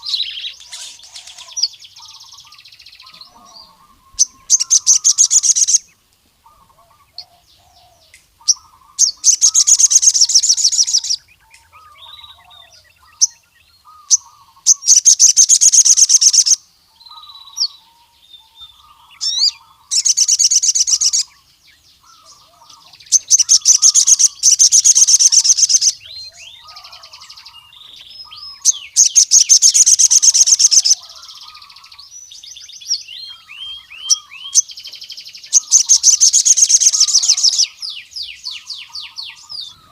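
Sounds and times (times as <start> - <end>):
bird singing rattling trills: 0.0 - 39.9
soft bird chirps: 0.0 - 39.9.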